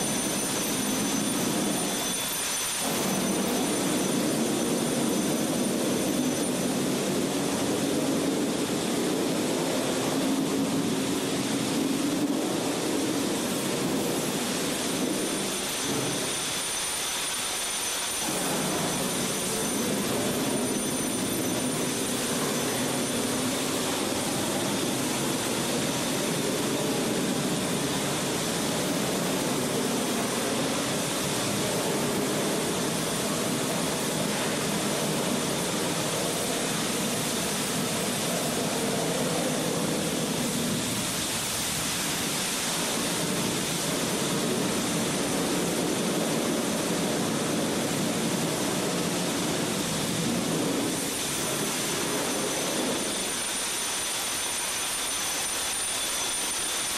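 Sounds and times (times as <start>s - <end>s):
fire roaring: 0.0s - 16.6s, 18.2s - 53.6s
fire hose stream rushing: 0.0s - 56.9s.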